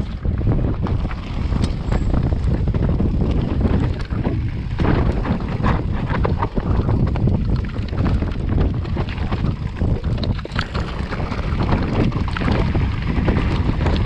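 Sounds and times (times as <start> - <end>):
bike rattling over rocks: 0.0 - 14.0
wind buffeting microphone: 0.0 - 14.0.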